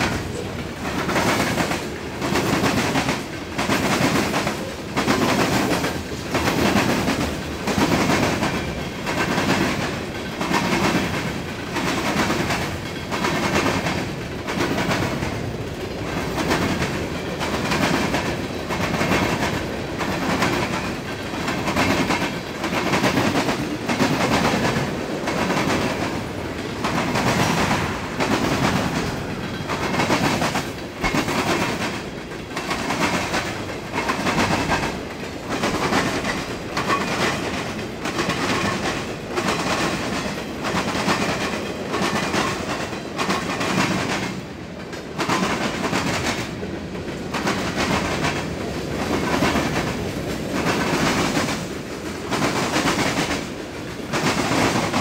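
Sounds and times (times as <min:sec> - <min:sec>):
rumble of train cars: 0:00.0 - 0:55.0
train wheels clattering over crossing: 0:00.0 - 0:55.0.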